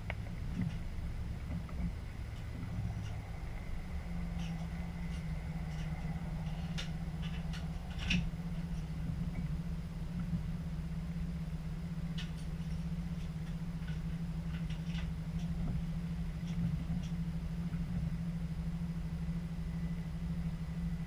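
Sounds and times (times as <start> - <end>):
train engine drone: 0.0 - 21.0.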